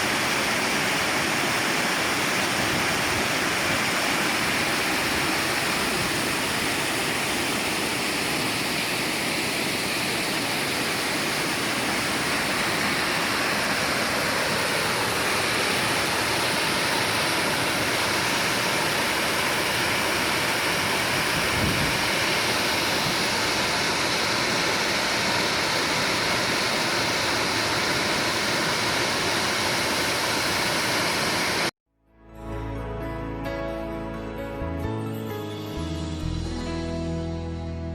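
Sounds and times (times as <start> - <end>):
stream rushing over rocks: 0.0 - 31.7.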